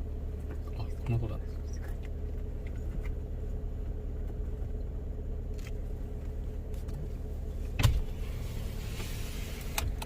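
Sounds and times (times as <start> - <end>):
car engine idling rumble: 0.0 - 10.0.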